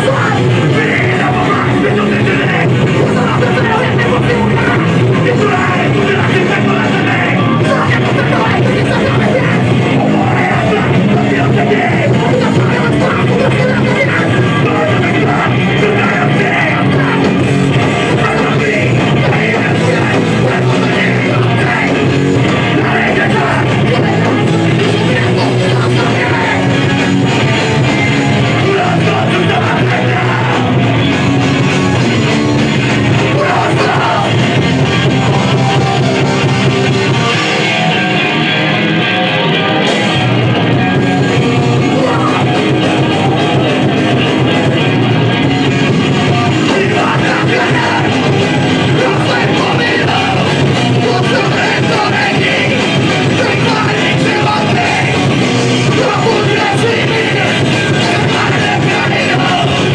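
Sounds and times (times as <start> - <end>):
punk rock band playing: 0.0 - 59.9
shouted vocals: 0.0 - 59.9.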